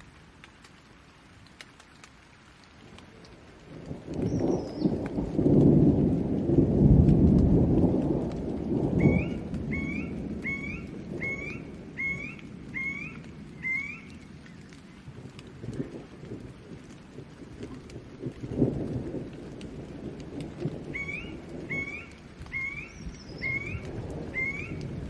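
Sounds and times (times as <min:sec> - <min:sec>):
steady rain: 0:00.0 - 0:25.0
thunder rumbling: 0:02.8 - 0:25.0.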